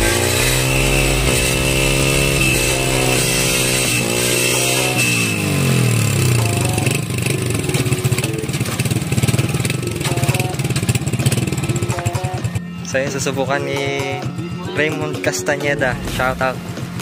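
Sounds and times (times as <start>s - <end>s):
motorcycle engine idling: 0.0s - 15.1s.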